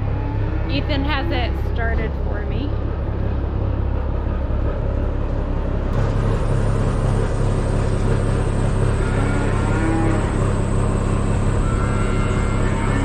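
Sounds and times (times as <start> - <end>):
truck diesel engine revving: 0.0 - 13.0.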